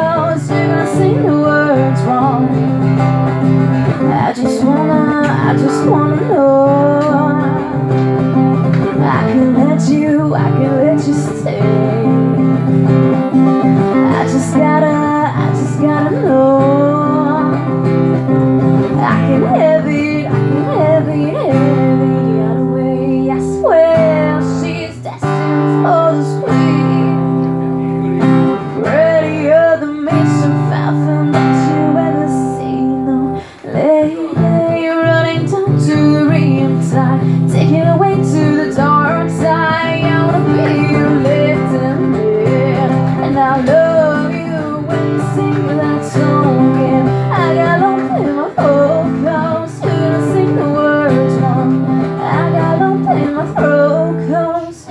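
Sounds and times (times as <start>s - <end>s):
woman singing through pa: 0.0s - 27.6s, 28.6s - 54.9s
acoustic guitar: 0.0s - 54.9s.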